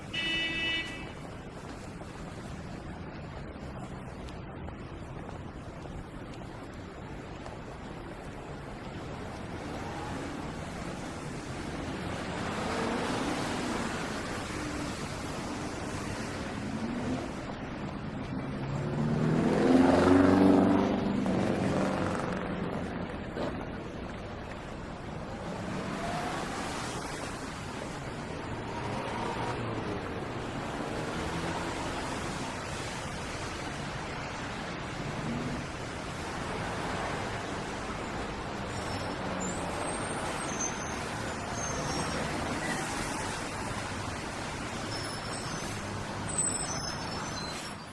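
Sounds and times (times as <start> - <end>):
city traffic hum: 0.0 - 47.9
road vehicle noise: 0.0 - 47.9.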